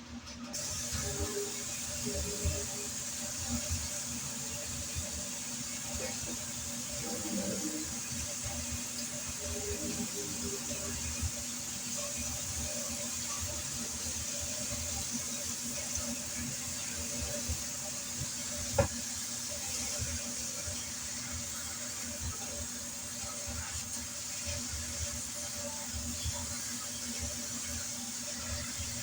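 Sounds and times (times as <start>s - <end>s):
fluorescent light buzzing: 0.0s - 29.0s
steady hiss: 0.0s - 29.0s.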